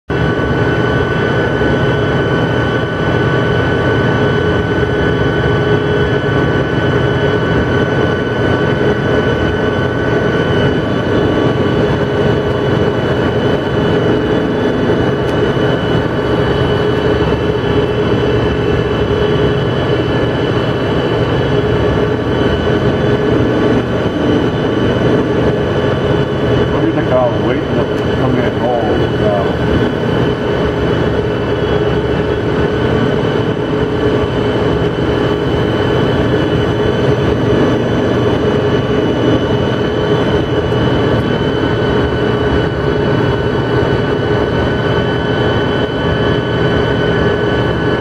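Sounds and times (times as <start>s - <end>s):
milking machinery drone: 0.1s - 48.0s.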